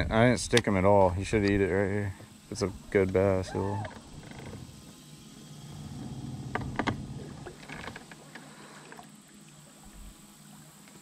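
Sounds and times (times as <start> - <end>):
electric trolling motor humming: 0.8 - 11.0.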